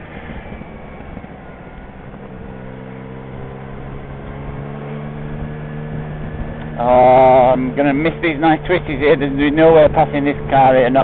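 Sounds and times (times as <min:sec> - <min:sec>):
motorcycle engine running: 0:00.0 - 0:11.0
wind and road rumble: 0:00.0 - 0:11.0.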